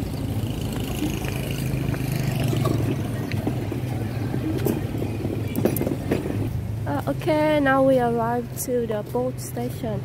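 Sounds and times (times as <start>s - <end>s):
low engine hum: 0.0s - 10.0s
vehicle passing: 0.0s - 10.0s.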